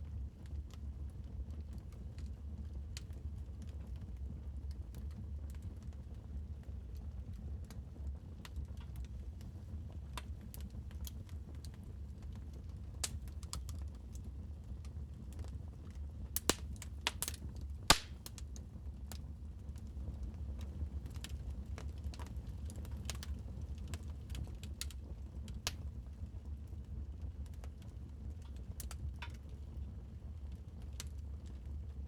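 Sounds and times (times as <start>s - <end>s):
fire crackling and popping: 0.2s - 32.0s.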